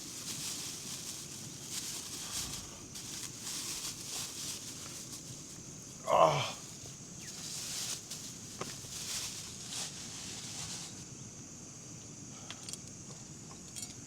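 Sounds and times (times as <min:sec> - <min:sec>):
high hiss: 0:00.0 - 0:12.9.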